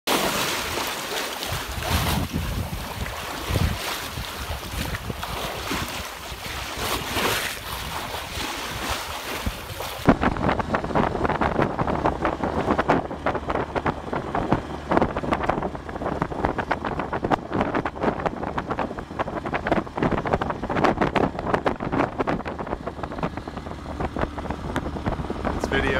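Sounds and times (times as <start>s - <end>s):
water rushing along hull: 0.1s - 25.9s
wind buffeting microphone: 1.4s - 25.9s.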